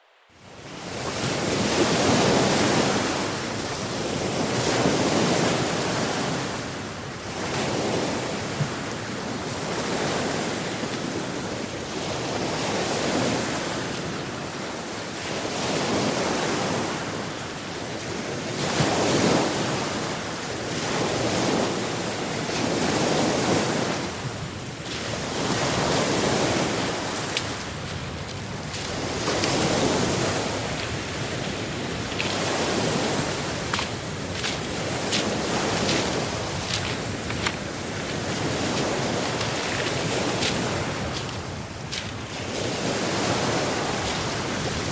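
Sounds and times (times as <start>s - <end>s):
waves breaking on shore: 0.4s - 44.9s.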